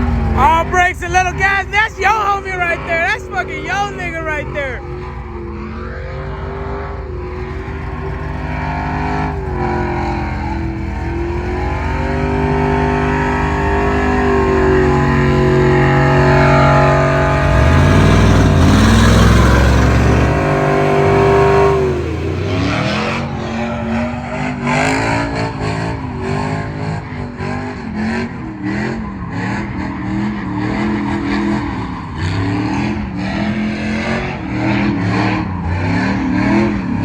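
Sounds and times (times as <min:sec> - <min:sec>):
truck engine revving high: 0:00.0 - 0:37.0.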